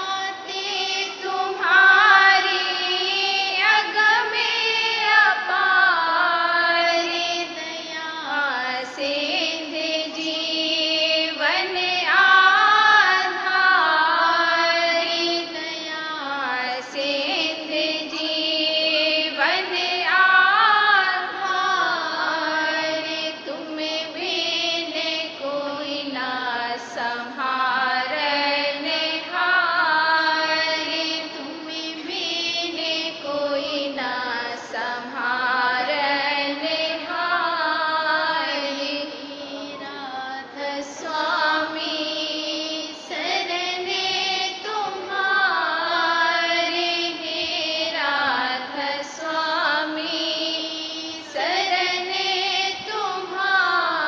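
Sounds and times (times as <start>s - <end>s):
woman singing a hymn: 0.0s - 54.0s.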